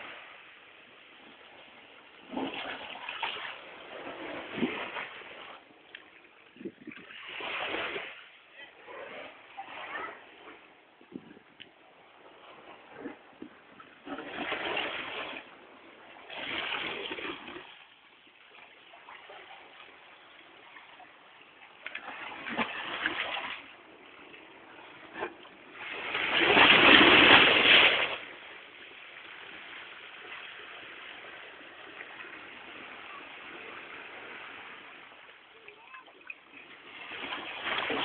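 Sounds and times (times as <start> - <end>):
sea waves breaking on shore: 0.0 - 38.0.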